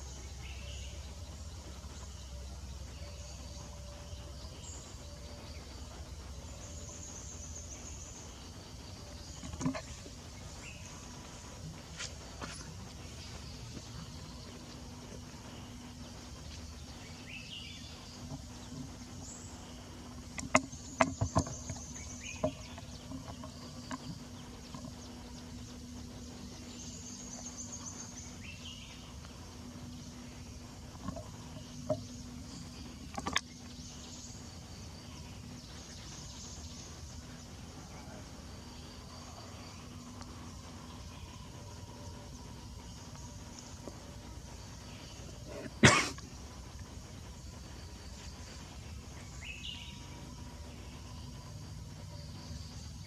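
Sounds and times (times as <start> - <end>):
insects buzzing: 0.0 - 53.0
steady low hum: 0.0 - 53.0.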